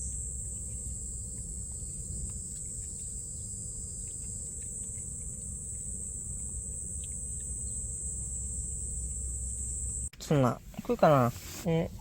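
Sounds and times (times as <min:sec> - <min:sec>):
insects chirring: 0:00.0 - 0:10.1
low background rumble: 0:00.0 - 0:12.0.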